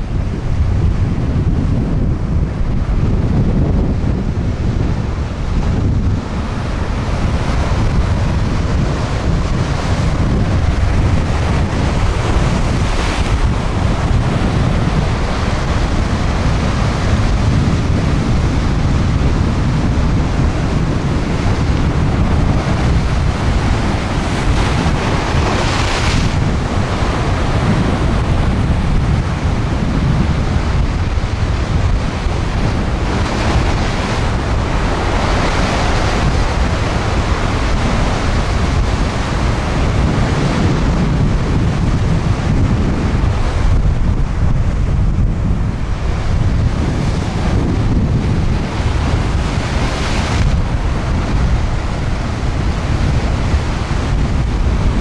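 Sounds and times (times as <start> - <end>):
surf crashing over rocks: 0.0 - 55.0
wind buffeting microphone: 0.0 - 55.0.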